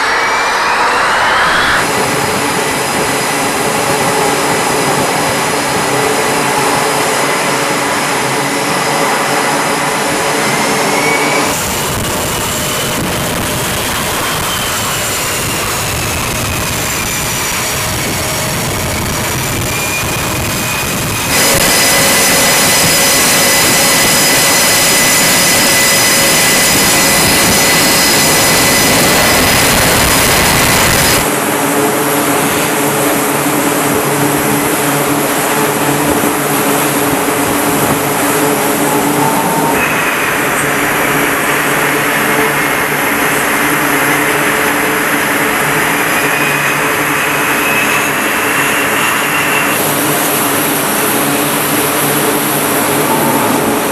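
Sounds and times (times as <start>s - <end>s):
jet engines rushing and whining: 0.0s - 53.9s.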